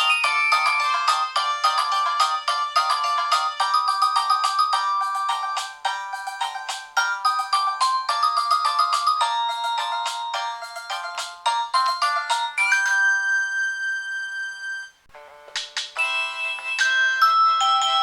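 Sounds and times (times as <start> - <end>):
polyphonic phone ringtone: 0.0 - 18.0.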